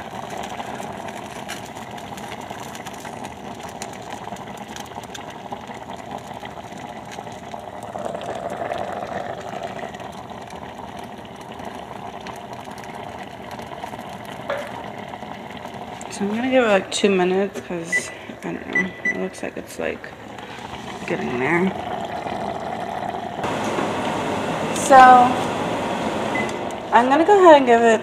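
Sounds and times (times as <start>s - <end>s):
rice boiling in pot: 0.0s - 28.0s.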